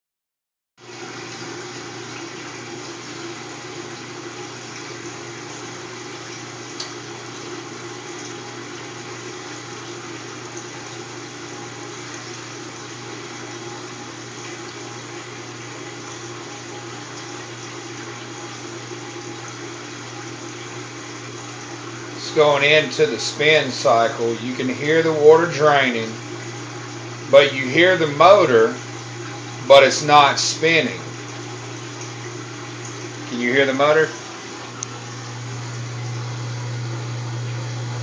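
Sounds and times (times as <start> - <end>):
motor hum: 0.8 - 38.0
water draining through pump: 0.8 - 38.0.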